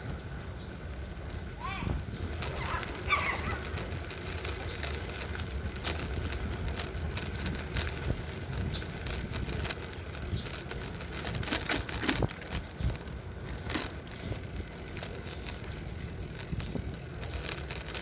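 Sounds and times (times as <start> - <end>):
small clicks and rattles: 0.0 - 18.0
wind rumble on microphone: 1.3 - 18.0.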